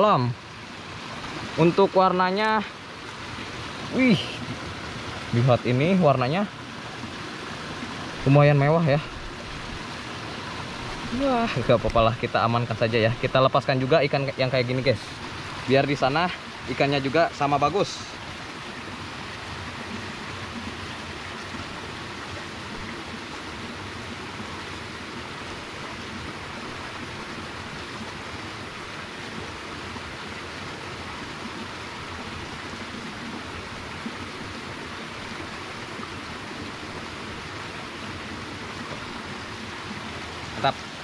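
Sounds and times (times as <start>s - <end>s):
stream flowing: 0.0s - 41.0s.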